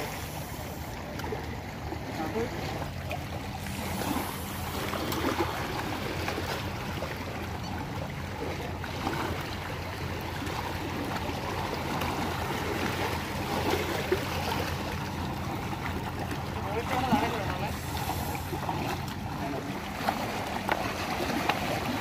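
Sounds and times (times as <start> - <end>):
waves lapping against rocks: 0.0 - 22.0.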